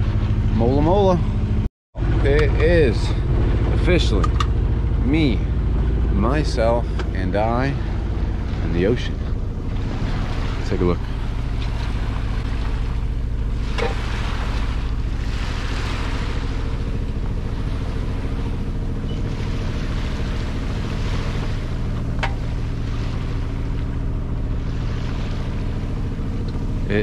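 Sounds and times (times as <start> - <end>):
steady low hum: 0.0 - 27.0
water rushing along hull: 0.0 - 27.0.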